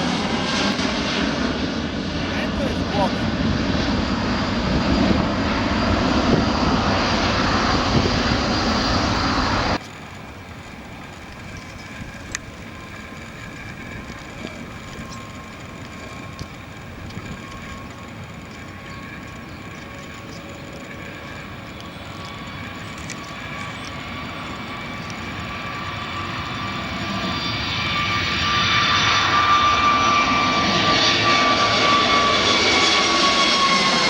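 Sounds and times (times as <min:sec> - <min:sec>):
jet engines roaring: 0:00.0 - 0:34.0
quieter jet engine noise: 0:00.0 - 0:34.0
faint steady tones: 0:02.3 - 0:30.3.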